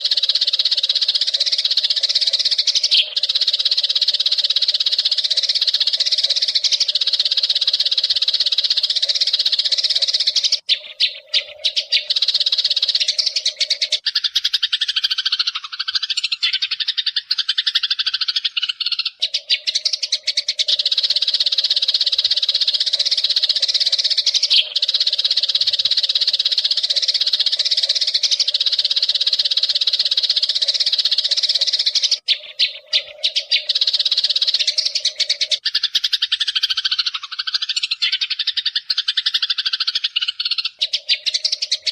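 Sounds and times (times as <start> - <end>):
sparrows chirping: 0.0 - 41.9.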